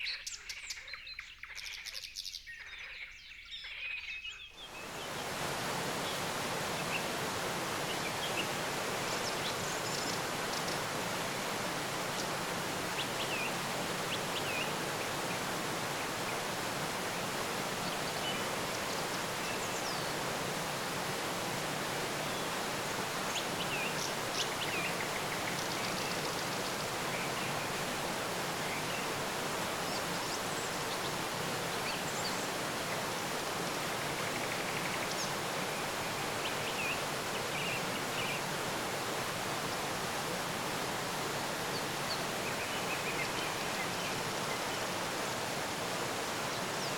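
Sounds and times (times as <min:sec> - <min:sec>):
flowing water rushing: 0:04.7 - 0:46.9.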